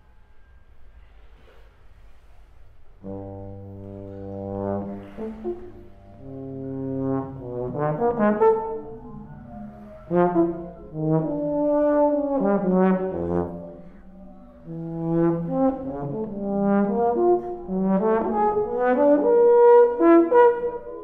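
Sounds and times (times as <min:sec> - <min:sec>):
euphonium with live electronics: 0:00.0 - 0:21.0.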